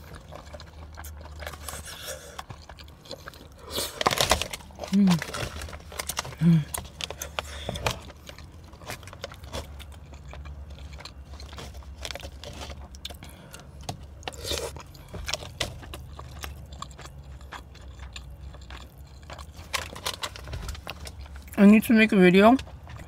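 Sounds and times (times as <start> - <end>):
chewing and mouth sounds: 0.0 - 21.6
low steady hum: 0.0 - 23.0.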